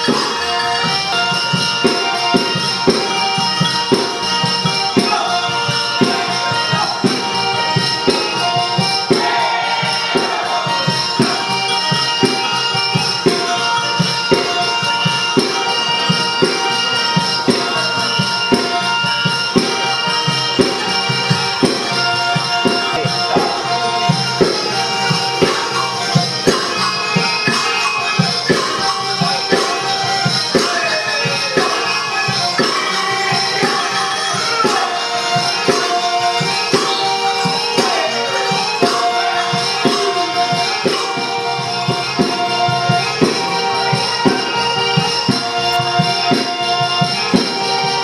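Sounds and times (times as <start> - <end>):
held melodic notes: 0.0 - 48.0
tambourine beat: 0.0 - 48.0.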